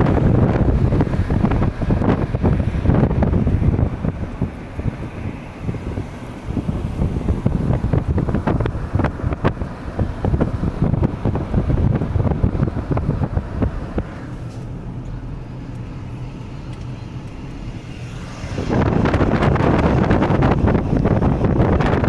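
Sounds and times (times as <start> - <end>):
car road and wind noise: 0.0 - 22.0
wind buffeting microphone: 0.0 - 22.0.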